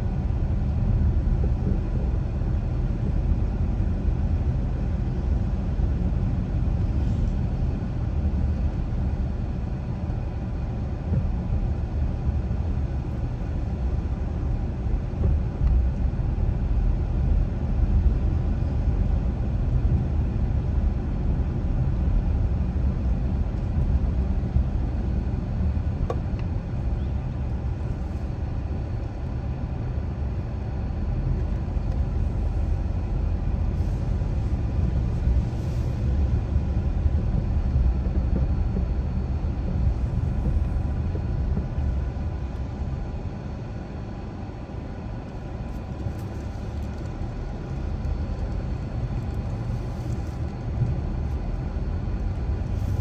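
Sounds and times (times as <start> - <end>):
car driving at low speed: 0.0 - 53.0.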